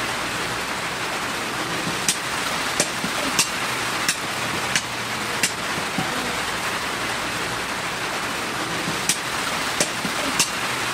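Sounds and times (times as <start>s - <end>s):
steady hiss: 0.0s - 10.9s.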